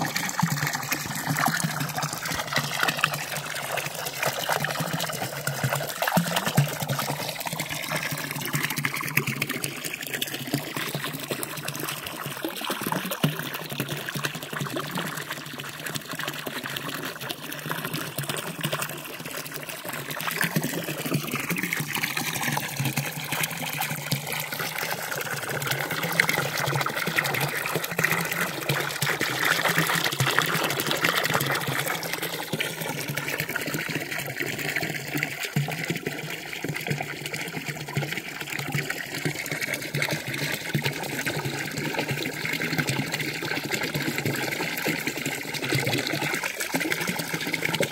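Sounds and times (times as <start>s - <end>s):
fountain water trickling: 0.0s - 47.9s.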